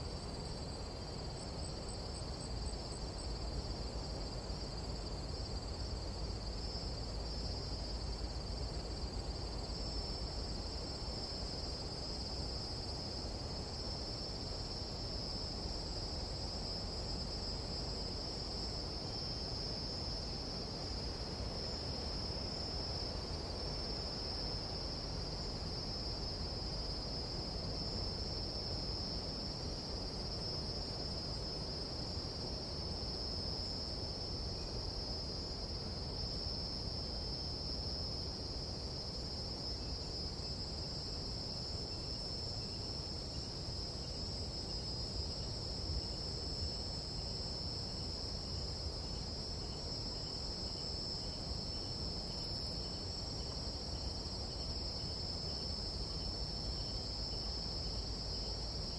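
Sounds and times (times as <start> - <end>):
insects trilling drone: 0.0 - 58.9.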